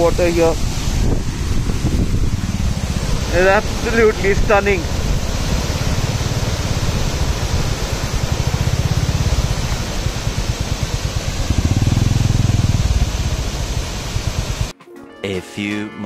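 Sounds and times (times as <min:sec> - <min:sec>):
motorcycle engine running: 0:00.0 - 0:14.7
wind and road noise: 0:00.0 - 0:14.7.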